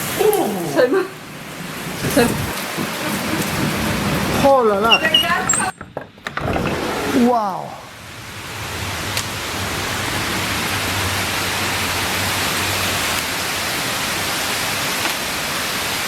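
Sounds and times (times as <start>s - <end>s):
storm downpour: 0.0s - 16.0s
wind: 0.0s - 16.0s.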